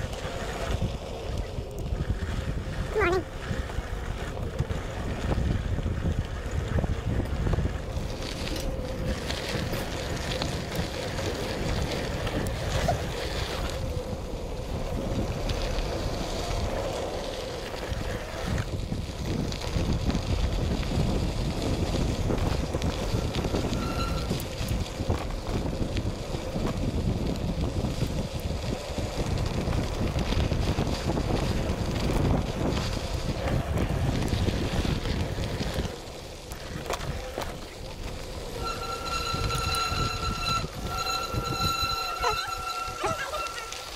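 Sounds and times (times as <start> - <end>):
tyres rumbling on gravel: 0.0 - 43.9
wind buffeting microphone: 0.0 - 43.9.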